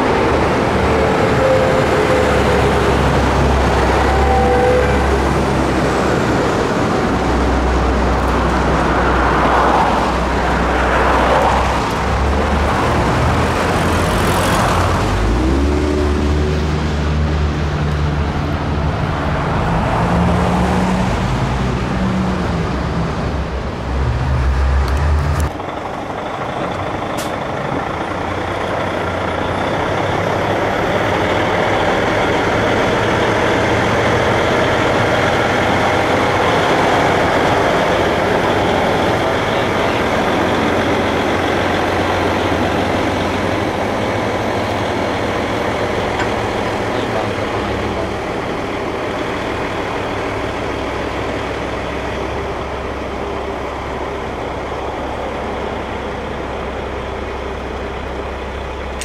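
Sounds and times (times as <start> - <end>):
road noise: 0.0 - 59.0
truck engine low hum: 0.0 - 59.0.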